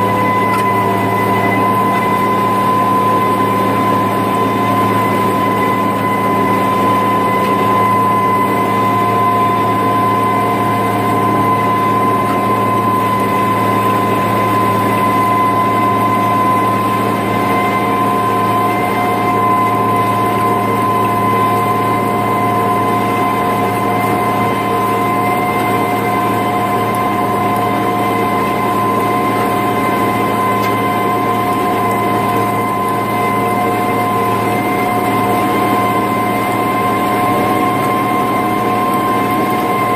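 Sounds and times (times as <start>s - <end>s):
steady high whine: 0.0s - 39.9s
tractor diesel engine drone: 0.0s - 39.9s.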